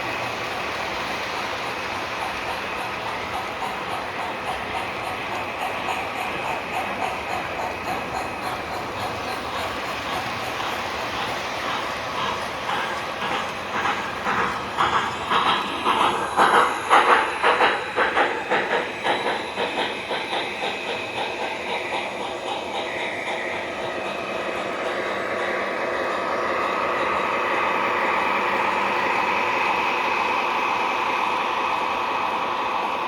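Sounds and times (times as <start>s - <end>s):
model train clattering on track: 0.0s - 33.0s.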